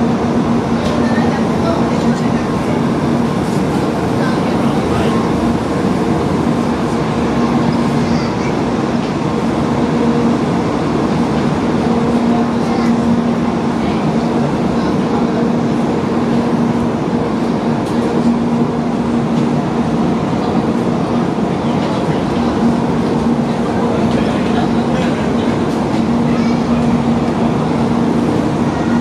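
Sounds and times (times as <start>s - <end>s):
crowd chatter: 0.0s - 29.0s.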